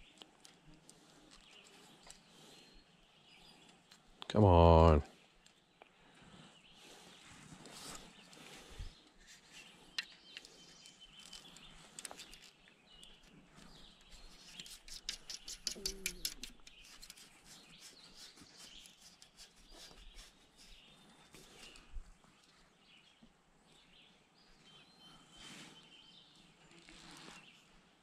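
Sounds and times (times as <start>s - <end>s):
birds chirping: 0.0s - 26.7s.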